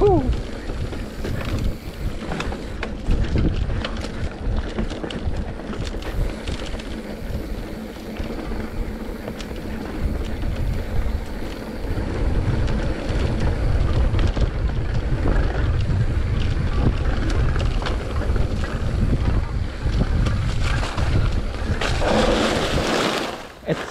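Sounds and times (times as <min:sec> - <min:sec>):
wind buffeting microphone: 0:00.0 - 0:23.2
mountain bike rattling on dirt trail: 0:00.0 - 0:23.9.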